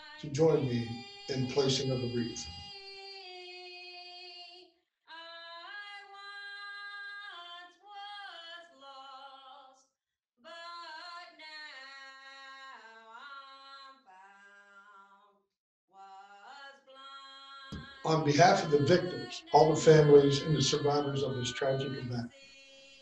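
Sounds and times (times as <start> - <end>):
woman singing unaccompanied: 0.9 - 1.3, 2.5 - 9.7, 10.5 - 15.1, 16.0 - 23.0.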